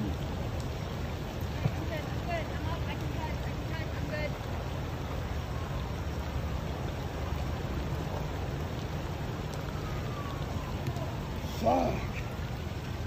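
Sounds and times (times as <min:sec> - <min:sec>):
rain and floodwater rushing: 0:00.0 - 0:13.0.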